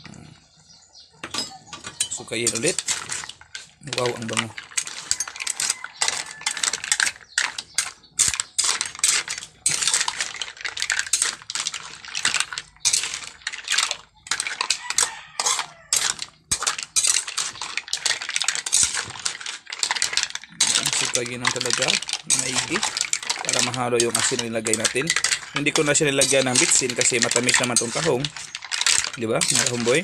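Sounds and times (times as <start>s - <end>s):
mussel shells clattering in wok: 1.2s - 30.0s.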